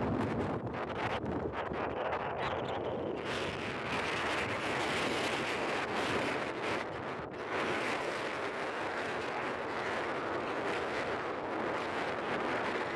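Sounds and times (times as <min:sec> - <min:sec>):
wind against microphone: 0:00.0 - 0:12.9.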